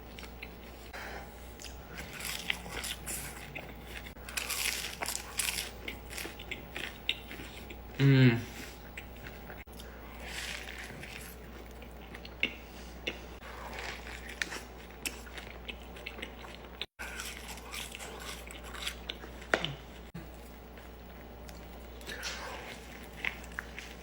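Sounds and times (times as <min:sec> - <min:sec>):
person chewing crunchy food: 0:00.0 - 0:24.0
steady low hum: 0:00.0 - 0:24.0.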